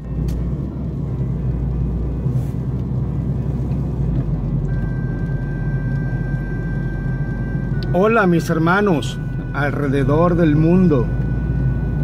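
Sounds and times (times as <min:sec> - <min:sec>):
car road and tyre noise: 0:00.0 - 0:12.0.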